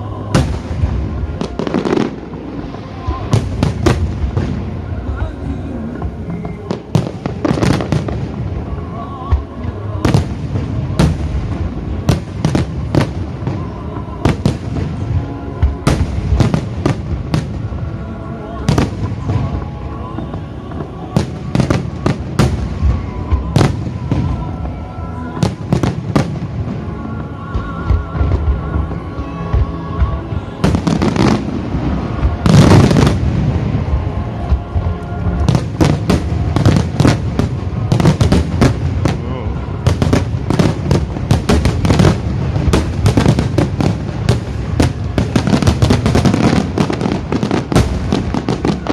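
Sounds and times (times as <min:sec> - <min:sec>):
fireworks bursting with echoes: 0:00.0 - 0:48.9
music playing: 0:00.0 - 0:48.9.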